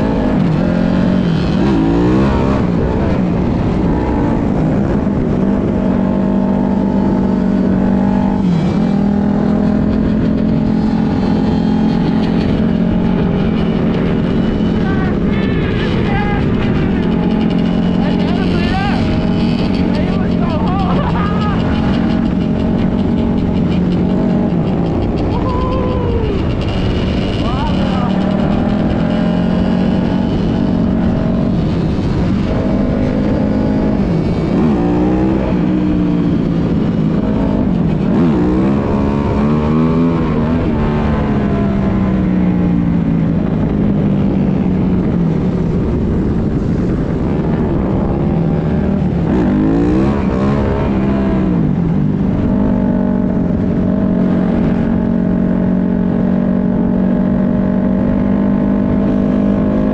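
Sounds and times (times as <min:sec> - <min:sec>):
dirt bike engine cruising: 0:00.0 - 0:59.9
wind rumble on microphone: 0:00.0 - 0:59.9.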